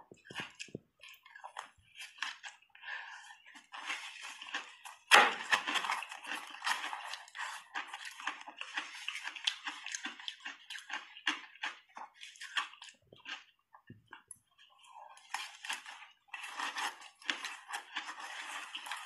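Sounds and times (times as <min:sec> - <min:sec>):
chewing crunchy shaved ice: 0:00.1 - 0:19.0.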